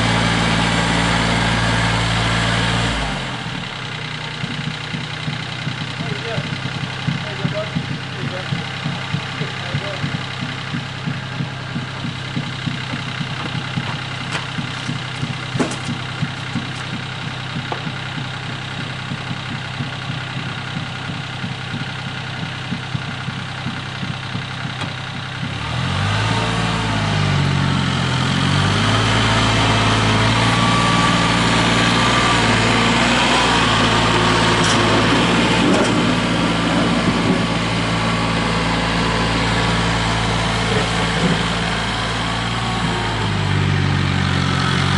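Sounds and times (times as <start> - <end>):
tractor engine idling and revving: 0.0 - 44.9.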